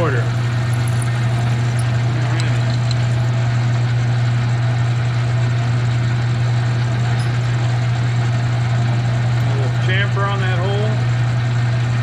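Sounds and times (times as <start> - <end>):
metal lathe humming: 0.0 - 11.4.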